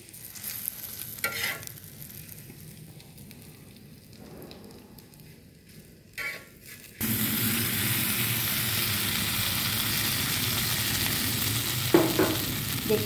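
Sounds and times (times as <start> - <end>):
food sizzling in butter: 0.0 - 4.2, 5.1 - 13.0.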